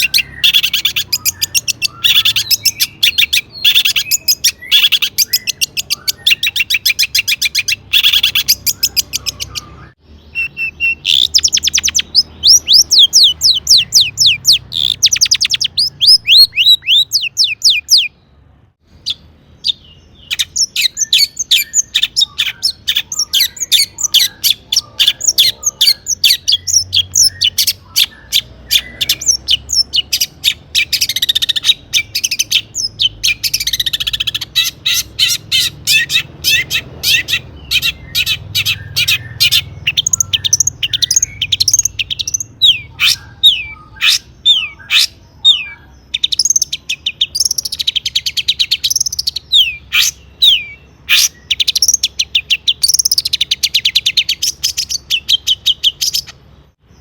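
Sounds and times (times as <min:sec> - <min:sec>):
bird singing sharp chattering notes: 0:00.0 - 0:57.0.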